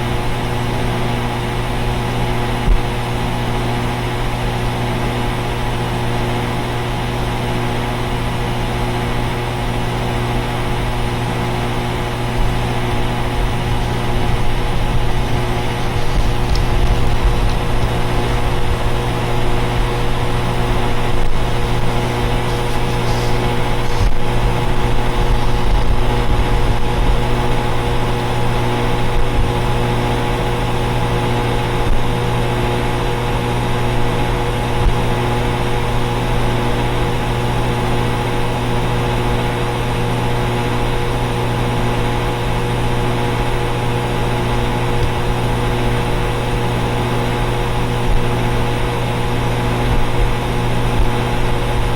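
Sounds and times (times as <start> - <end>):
air conditioner units humming: 0.0 - 51.9.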